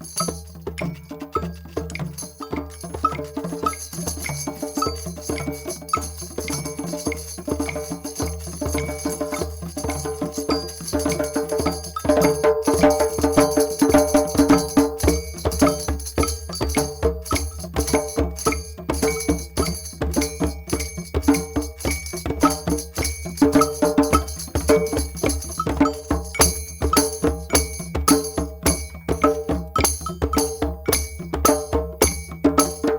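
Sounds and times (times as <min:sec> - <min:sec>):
drums and percussion playing: 0:00.0 - 0:32.9.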